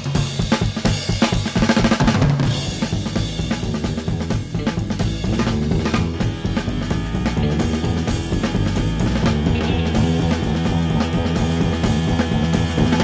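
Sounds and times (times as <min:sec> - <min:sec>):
drums and cymbals: 0:00.0 - 0:13.0
low bass line: 0:02.1 - 0:13.0.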